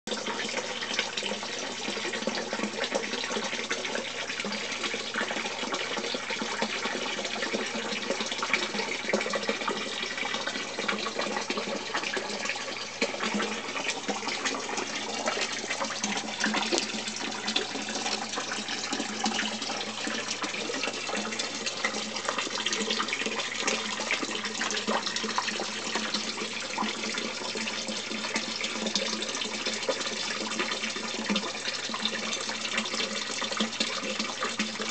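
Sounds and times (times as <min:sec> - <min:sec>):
water splashing and trickling: 0:00.1 - 0:34.9.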